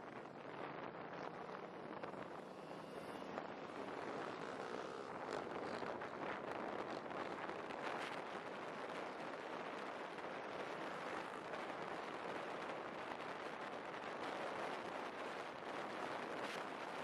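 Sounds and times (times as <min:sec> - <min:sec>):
motorcycle road and engine noise: 0:00.0 - 0:17.0
wind rushing over microphone: 0:00.0 - 0:17.0.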